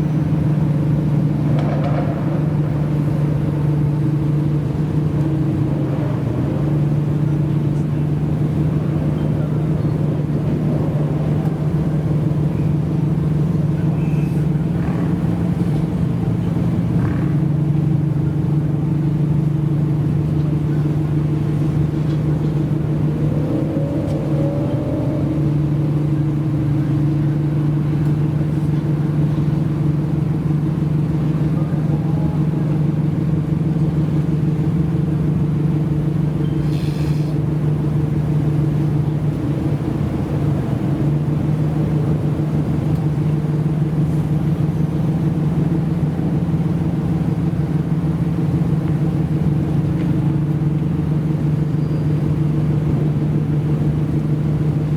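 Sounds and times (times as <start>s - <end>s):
car engine droning: 0.0s - 54.9s.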